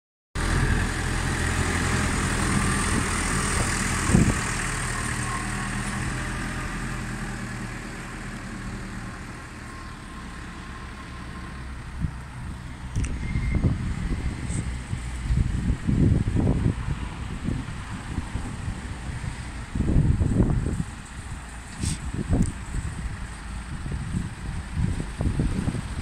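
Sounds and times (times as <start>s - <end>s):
diesel tractor engine running: 0.4s - 26.0s.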